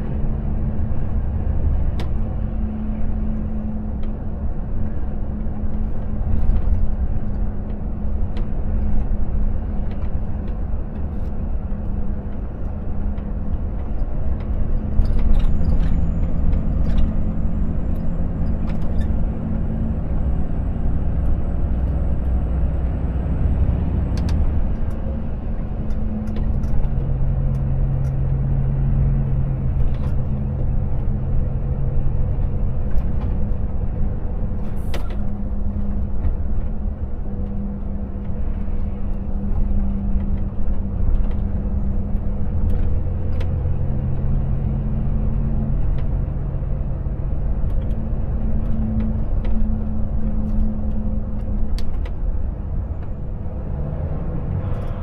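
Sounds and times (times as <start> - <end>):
road and tyre rumble: 0.0 - 55.0.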